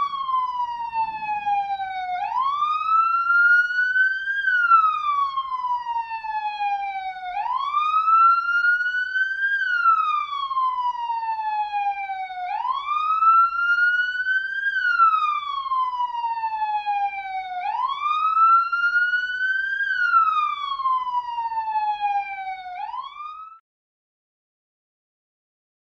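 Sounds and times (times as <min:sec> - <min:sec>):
police siren wailing: 0:00.0 - 0:23.6.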